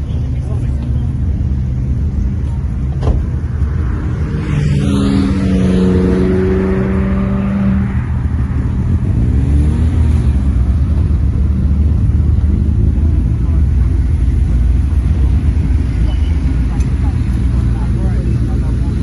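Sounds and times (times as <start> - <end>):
car engine running under load: 0.0 - 19.0.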